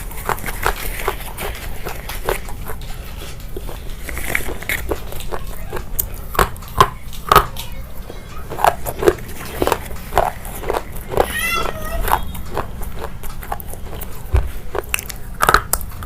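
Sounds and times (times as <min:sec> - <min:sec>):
crunchy chewing: 0:00.0 - 0:16.0.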